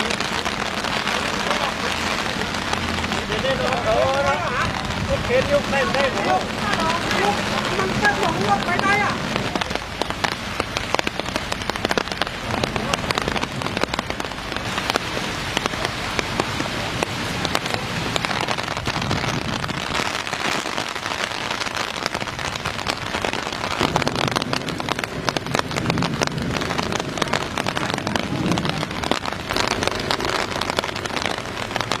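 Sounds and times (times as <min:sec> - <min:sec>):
rain falling: 0:00.0 - 0:32.0
raindrops hitting close by: 0:00.0 - 0:32.0.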